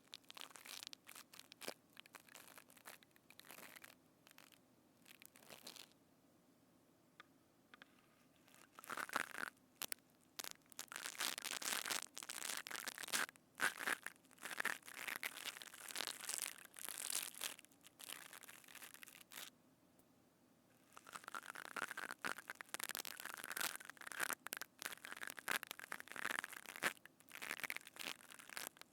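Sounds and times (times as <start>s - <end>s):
crackly crunching handling: 0.0s - 6.0s, 8.3s - 19.5s, 21.0s - 28.9s.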